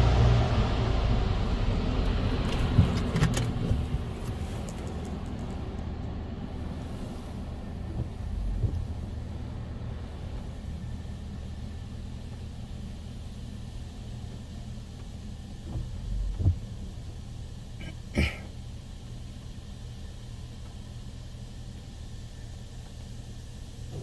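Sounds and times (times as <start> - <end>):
car wash machine rumble: 0.0 - 24.0.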